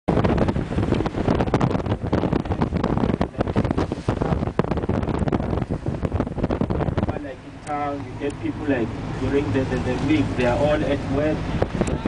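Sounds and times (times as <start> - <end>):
moving vehicle rumble: 0.1 - 12.0
wind buffeting microphone: 0.1 - 12.0.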